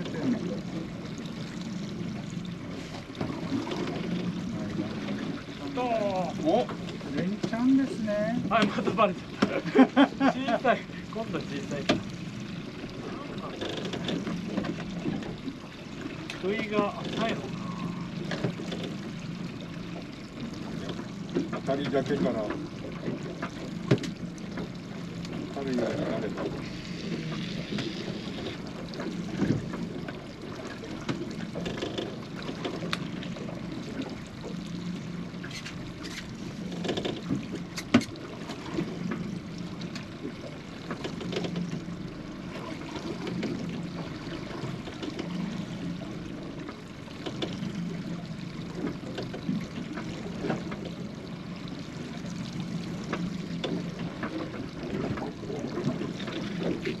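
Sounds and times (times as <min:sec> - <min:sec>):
water sloshing against boat hull: 0:00.0 - 0:57.0.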